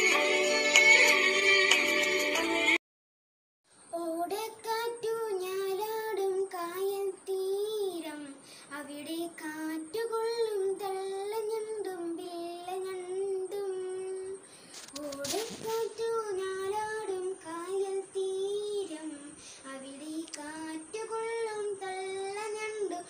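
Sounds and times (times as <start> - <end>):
boy singing: 3.9 - 23.0.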